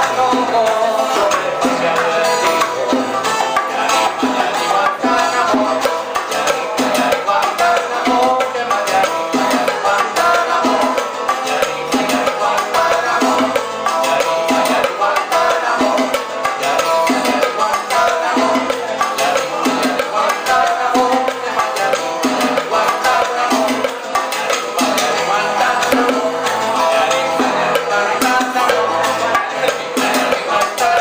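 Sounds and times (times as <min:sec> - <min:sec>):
busy percussion rhythm: 0:00.0 - 0:31.0
live salsa band: 0:00.0 - 0:31.0.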